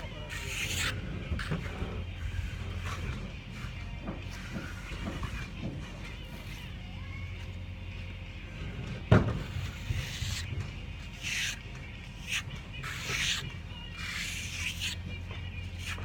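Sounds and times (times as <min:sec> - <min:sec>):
metal trowel scraping: 0:00.0 - 0:06.7, 0:09.3 - 0:16.0.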